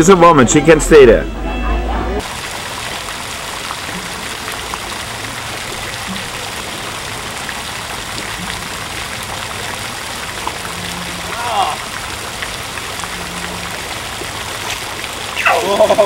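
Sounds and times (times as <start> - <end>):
water splashing into pool: 2.2 - 16.0.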